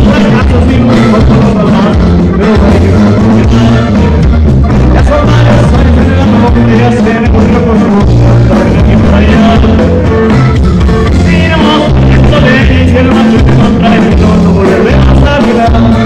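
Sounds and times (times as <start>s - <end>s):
bass notes: 0.0s - 16.0s
drum kit beat: 0.0s - 16.0s
electric guitars: 0.0s - 16.0s
person singing: 0.0s - 16.0s.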